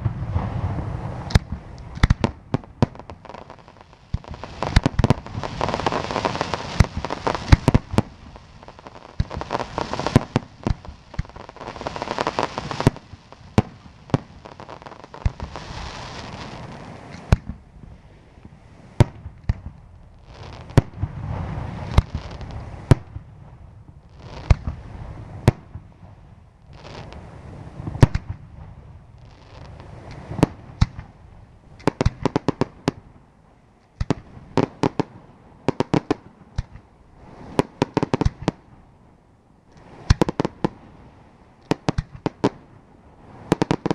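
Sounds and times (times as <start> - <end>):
fireworks crackling: 0.0 - 17.6, 18.4 - 33.1, 33.9 - 38.7, 39.8 - 43.9.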